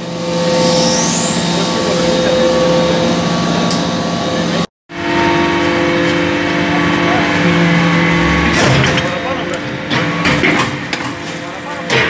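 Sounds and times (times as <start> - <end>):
hydraulic power unit hum: 0.0 - 12.0.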